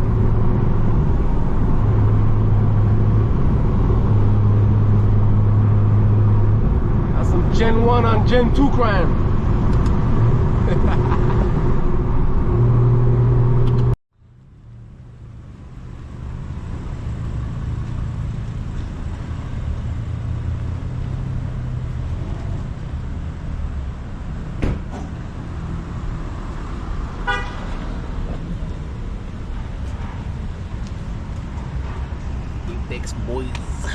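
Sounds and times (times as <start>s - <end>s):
car engine droning: 0.0s - 33.9s.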